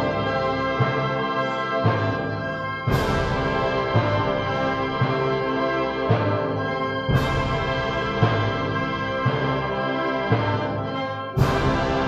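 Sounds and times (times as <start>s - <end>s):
wind band brass chords: 0.0s - 12.0s.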